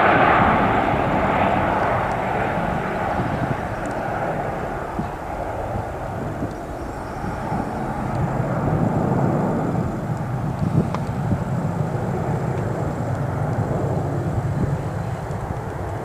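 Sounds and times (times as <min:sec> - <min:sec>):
jet engines at takeoff power: 0:00.0 - 0:16.0.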